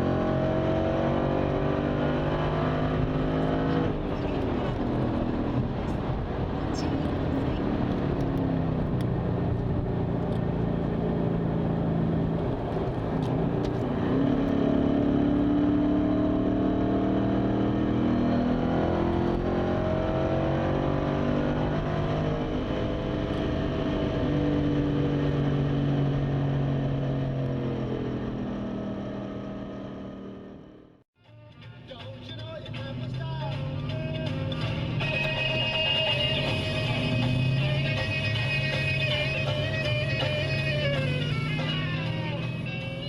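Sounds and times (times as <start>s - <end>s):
car engine driving: 0.0s - 31.0s, 31.7s - 43.0s.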